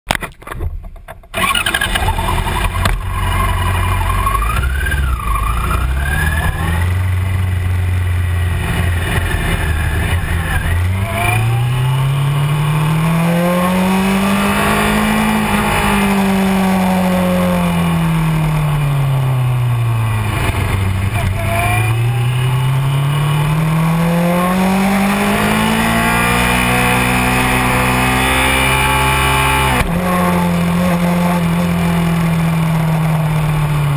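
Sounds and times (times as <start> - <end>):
motorcycle engine revving: 1.2 - 33.9.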